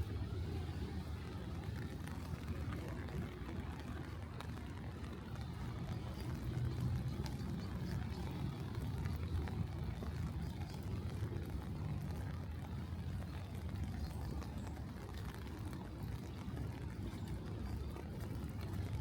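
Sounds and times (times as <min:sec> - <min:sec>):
light rain taps: 0:00.0 - 0:19.0
traffic rumble: 0:00.0 - 0:19.0.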